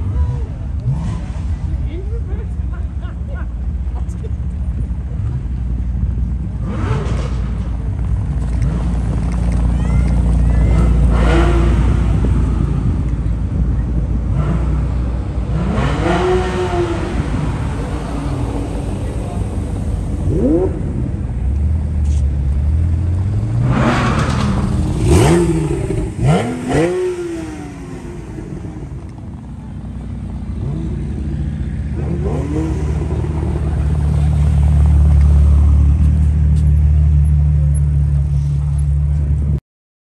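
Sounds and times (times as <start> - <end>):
sports car engine revving: 6.6 - 13.6, 14.2 - 39.5.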